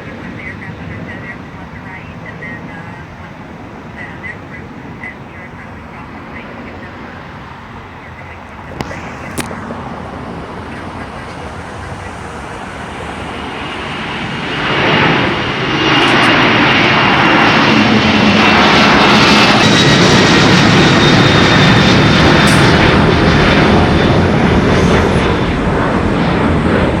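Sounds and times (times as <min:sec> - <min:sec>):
high steady whine: 0:00.0 - 0:27.0
jet engines running: 0:00.0 - 0:27.0.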